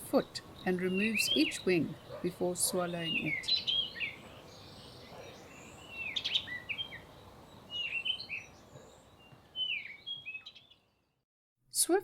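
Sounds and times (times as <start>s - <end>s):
small birds chirping: 0.0s - 11.2s.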